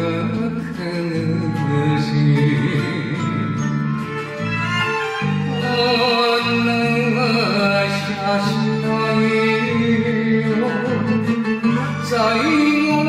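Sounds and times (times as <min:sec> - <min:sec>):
guitar melody: 0:00.0 - 0:13.0
steady bass notes: 0:00.0 - 0:13.0.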